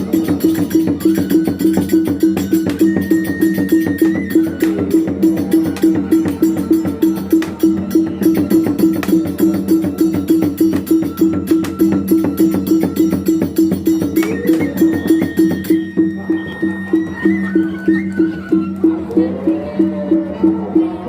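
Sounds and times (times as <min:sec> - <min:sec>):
gong and drum beat: 0:00.0 - 0:17.4
high held melody line: 0:00.0 - 0:21.0.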